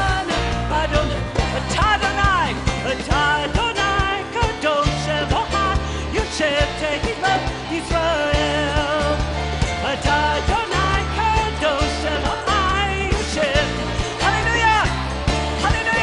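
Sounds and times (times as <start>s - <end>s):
women singing: 0.0s - 14.9s, 15.6s - 16.0s
drum kit beat: 0.0s - 16.0s.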